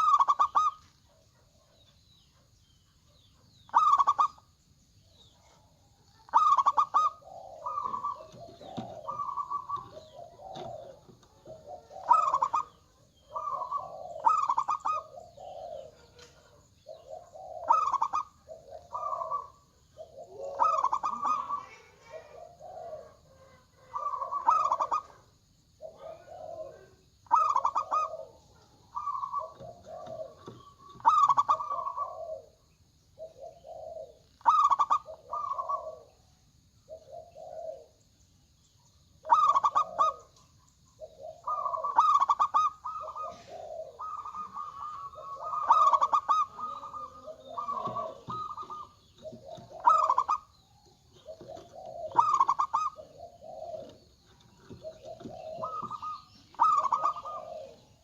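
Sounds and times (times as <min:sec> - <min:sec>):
doves cooing: 0:00.0 - 0:38.2, 0:39.2 - 0:58.0.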